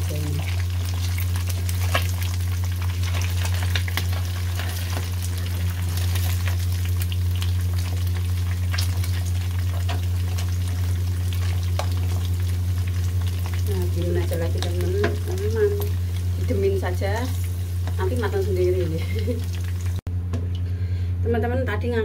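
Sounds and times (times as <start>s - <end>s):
fish sizzling in hot oil: 0.0s - 20.0s
low hum: 0.0s - 22.0s.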